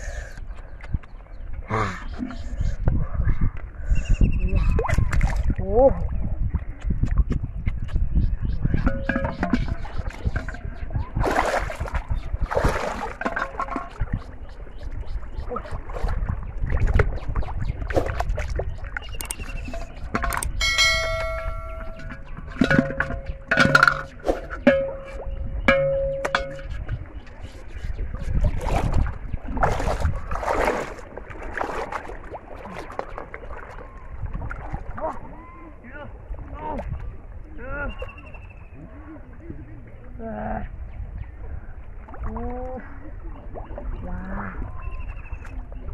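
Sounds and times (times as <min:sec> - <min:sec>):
water splashing and sloshing: 0:04.6 - 0:45.9.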